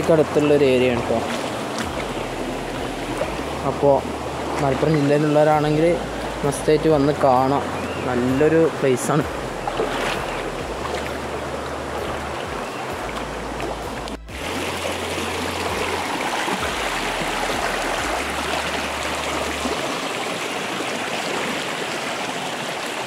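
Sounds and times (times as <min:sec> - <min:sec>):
background music with bass notes: 0:00.0 - 0:19.8
water splashing over rocks: 0:00.0 - 0:23.0.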